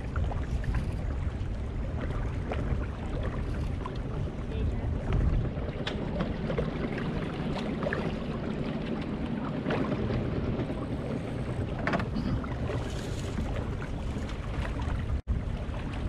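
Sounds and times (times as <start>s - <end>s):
water rushing along hull: 0.0s - 16.0s
wind on microphone: 0.0s - 16.0s.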